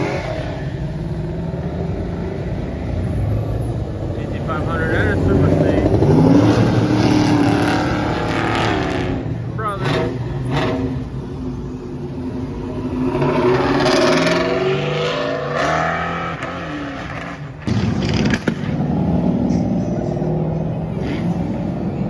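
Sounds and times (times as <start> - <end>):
car engines revving past: 0.0 - 22.0.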